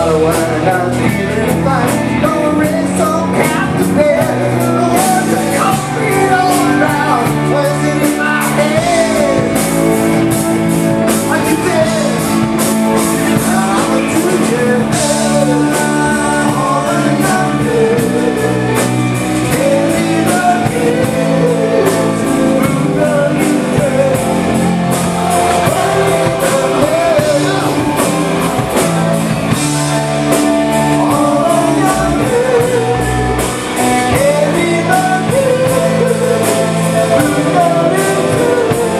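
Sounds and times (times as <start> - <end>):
electric guitar: 0.0 - 38.9
man singing: 0.0 - 38.9
drum beat: 0.3 - 38.9.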